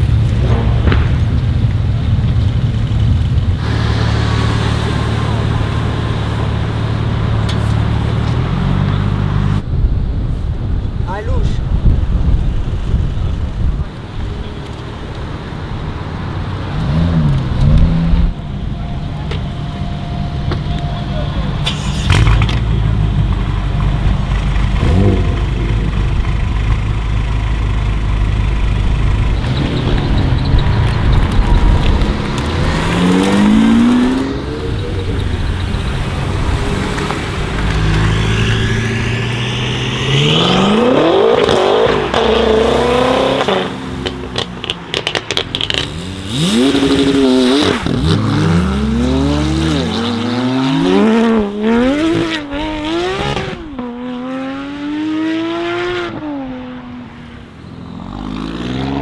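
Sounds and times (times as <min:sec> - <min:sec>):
exhaust crackles: 0:00.0 - 0:54.9
car engine idling and revving: 0:00.0 - 0:59.0.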